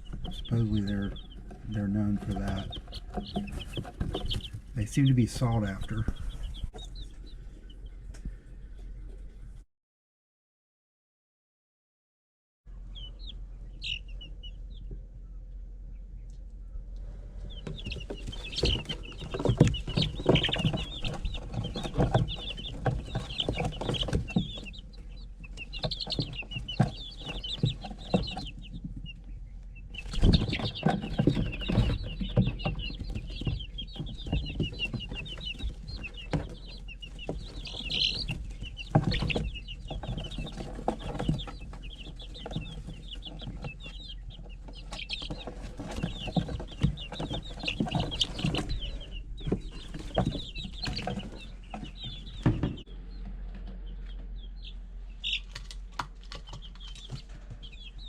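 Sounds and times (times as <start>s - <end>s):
knocks and rustles: 0.0s - 7.0s, 17.6s - 58.0s
chicks peeping: 0.0s - 9.6s, 12.7s - 58.0s.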